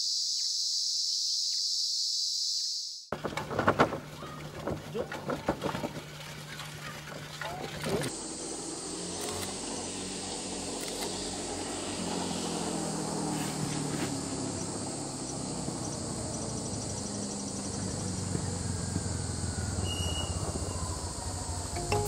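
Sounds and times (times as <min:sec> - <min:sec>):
insects chirping: 0:00.0 - 0:03.1, 0:06.8 - 0:22.0
motorcycle engine approaching: 0:03.1 - 0:22.0.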